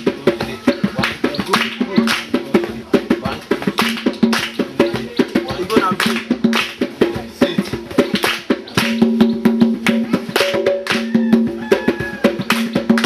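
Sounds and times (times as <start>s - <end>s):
percussion music: 0.0s - 13.0s.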